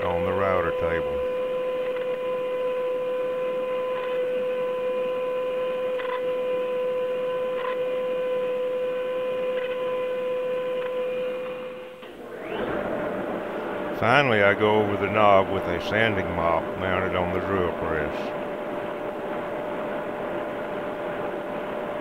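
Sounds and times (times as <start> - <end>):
bit cutting wood: 0.0 - 19.0
router motor whine: 0.0 - 22.0.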